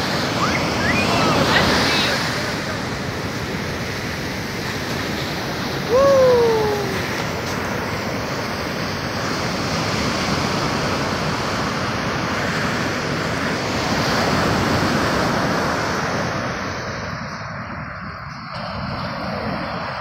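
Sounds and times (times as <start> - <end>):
surf breaking on sand: 0.0 - 20.0.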